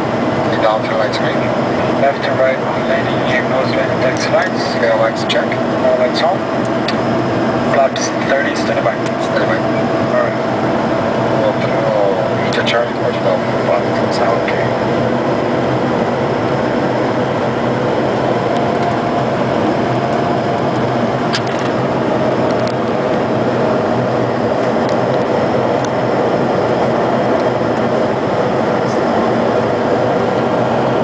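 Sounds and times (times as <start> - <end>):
jet airflow and engine noise: 0.0 - 31.0.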